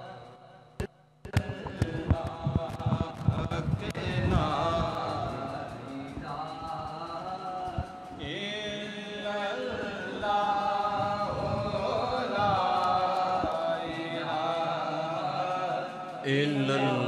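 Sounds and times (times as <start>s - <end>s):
man chanting into a microphone: 1.3s - 17.0s.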